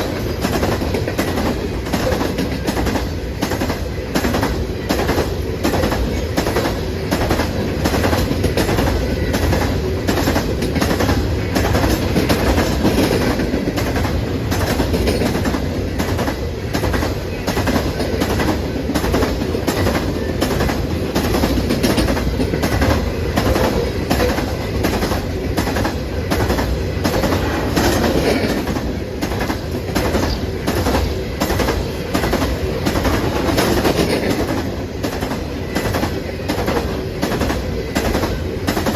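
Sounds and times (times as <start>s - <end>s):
train cars rumbling by: 0.0s - 38.9s
wheels clicking over rail joints: 0.0s - 38.9s.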